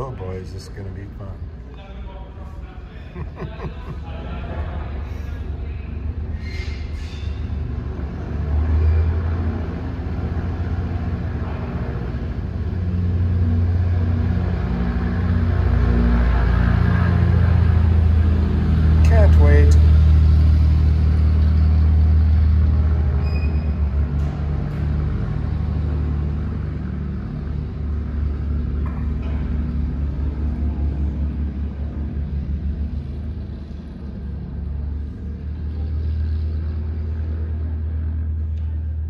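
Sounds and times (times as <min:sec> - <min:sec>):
propeller plane engines droning: 0:00.0 - 0:39.0.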